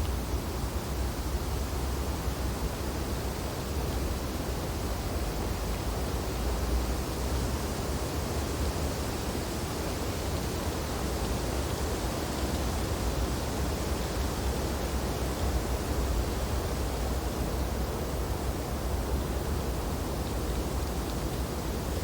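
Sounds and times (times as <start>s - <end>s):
wind through tree branches: 0.0s - 22.0s.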